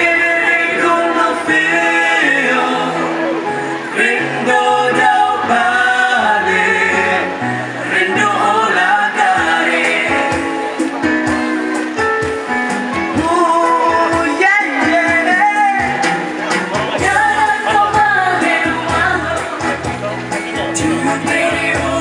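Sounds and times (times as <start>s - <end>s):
vocal group singing in harmony: 0.0s - 12.0s, 13.1s - 22.0s.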